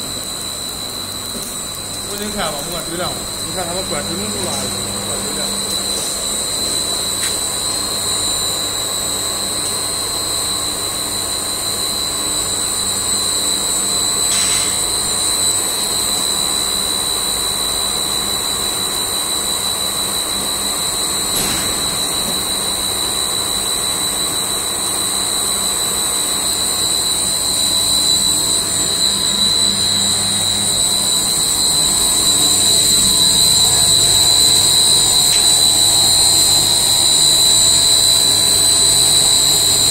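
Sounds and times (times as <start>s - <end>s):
machine drone with high whine: 0.0s - 39.9s.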